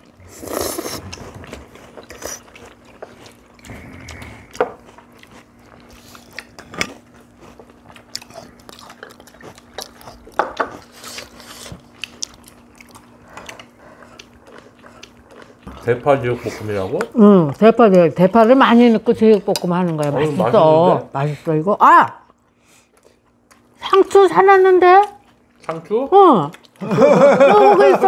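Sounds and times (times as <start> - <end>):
chewing and crunching: 0.0 - 20.9, 22.0 - 23.9, 24.8 - 26.9.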